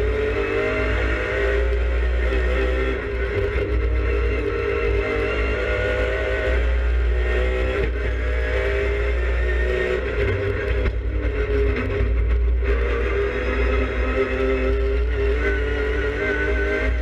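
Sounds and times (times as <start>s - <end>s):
race car engine running hard: 0.0s - 17.0s
road and wind rumble: 0.0s - 17.0s.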